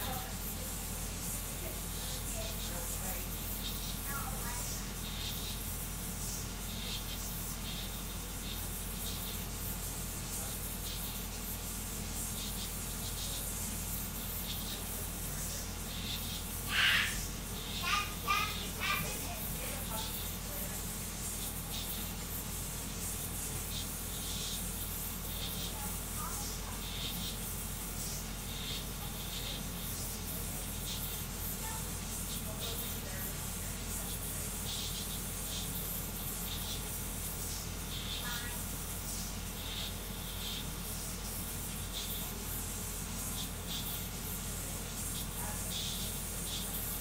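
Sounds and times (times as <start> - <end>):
printer fan and motor hum: 0.0 - 47.0
short hissy bursts: 0.0 - 47.0.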